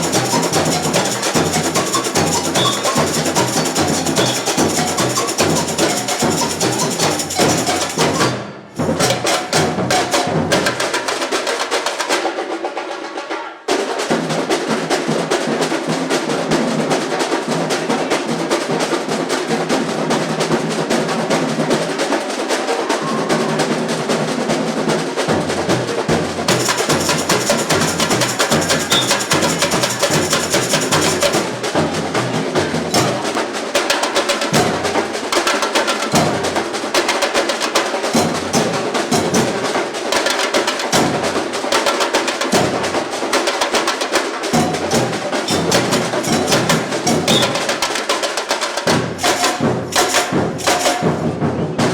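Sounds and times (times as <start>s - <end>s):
samba drum ensemble playing: 0.0s - 51.9s.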